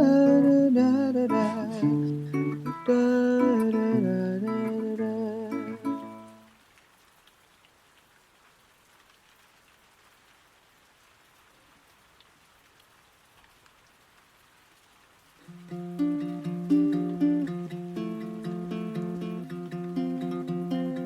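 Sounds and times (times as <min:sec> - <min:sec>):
faint steady rain: 0:00.0 - 0:21.0.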